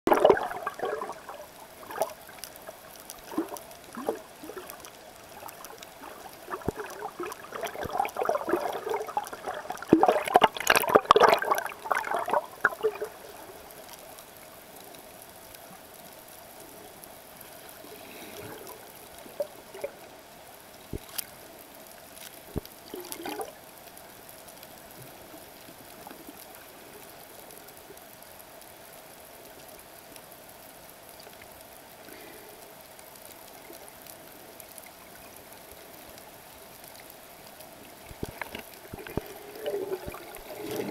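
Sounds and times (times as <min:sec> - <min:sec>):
underwater splashing and bubbling: 0:00.1 - 0:29.3, 0:31.1 - 0:40.9
faint underwater hiss: 0:00.1 - 0:40.9.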